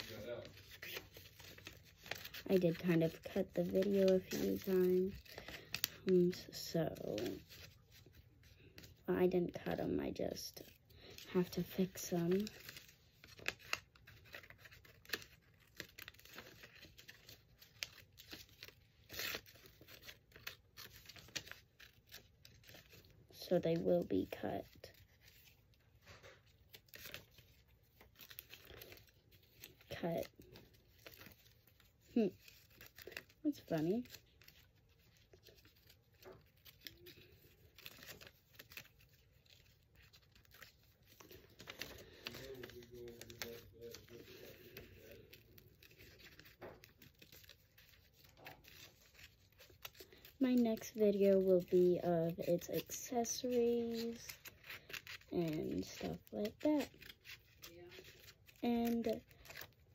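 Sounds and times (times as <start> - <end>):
scissors snipping paper: 0.0 - 9.0, 10.6 - 59.9
paper rustling: 0.0 - 59.9.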